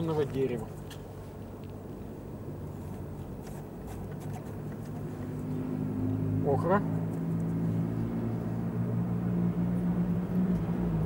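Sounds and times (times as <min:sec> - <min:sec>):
faint city noise: 0:00.0 - 0:11.0
vehicle engine humming: 0:00.0 - 0:11.0.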